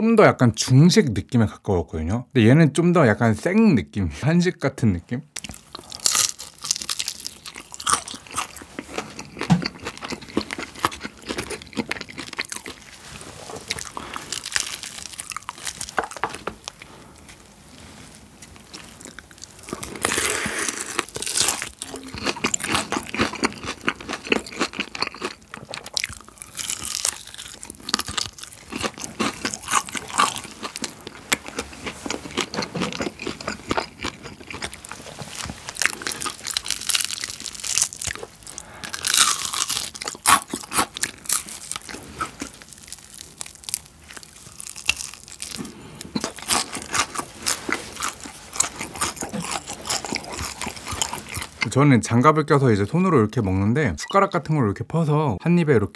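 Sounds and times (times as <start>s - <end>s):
fried chicken crunching: 5.4s - 17.4s, 18.5s - 51.7s.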